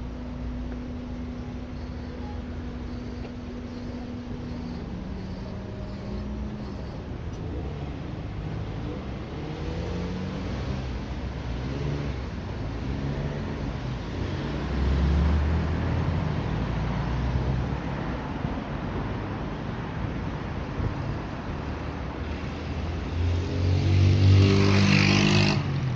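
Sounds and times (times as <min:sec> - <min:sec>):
car traffic passing: 0:00.0 - 0:25.9.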